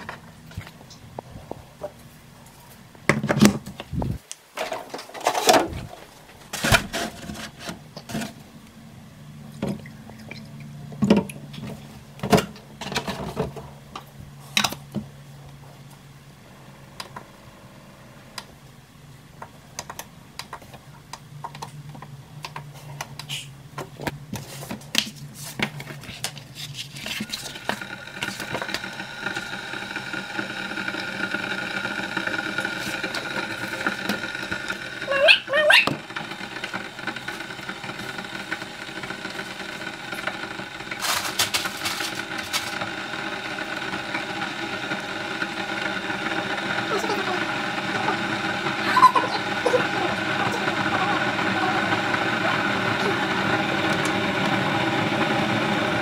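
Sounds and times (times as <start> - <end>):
coffee maker humming and whining: 5.8 - 56.0.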